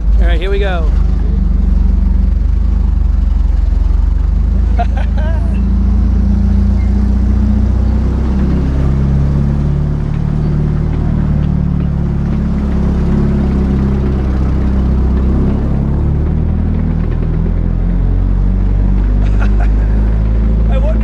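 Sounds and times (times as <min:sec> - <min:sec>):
tank engine running: 0:00.0 - 0:21.0.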